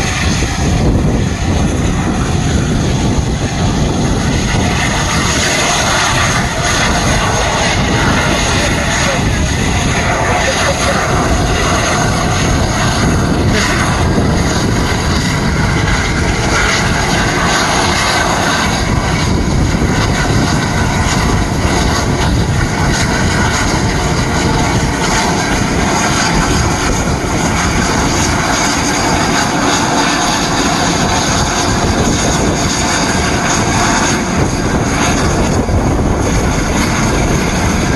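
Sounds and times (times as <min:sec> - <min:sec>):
steam locomotive exhaust roaring: 0:00.0 - 0:37.9.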